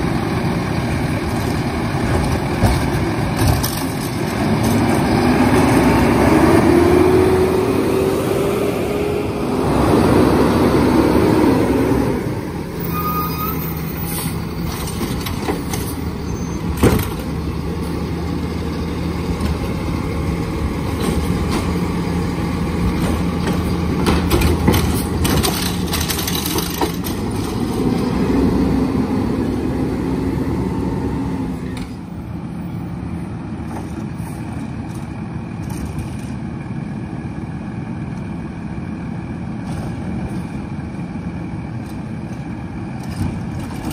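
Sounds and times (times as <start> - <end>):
garbage truck diesel engine: 0.0 - 43.9.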